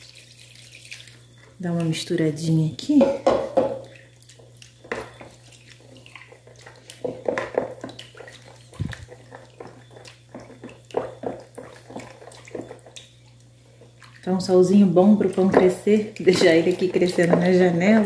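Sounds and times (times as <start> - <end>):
liquid sloshing: 0.0 - 18.0.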